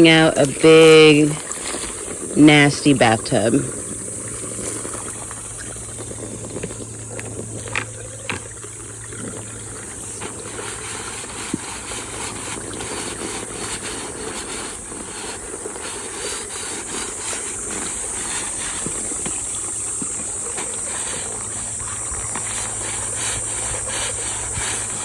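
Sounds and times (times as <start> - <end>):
scrubbing strokes: 0.0 - 25.0.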